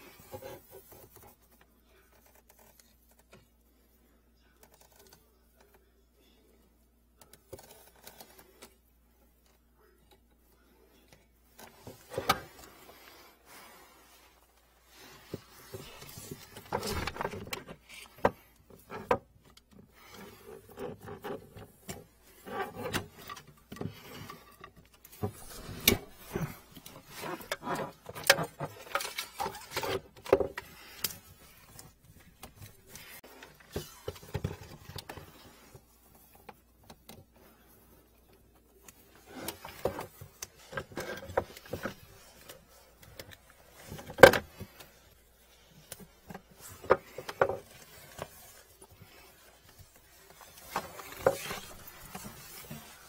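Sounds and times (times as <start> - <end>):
metal hose and plastic handling noise: 9.4 - 53.0.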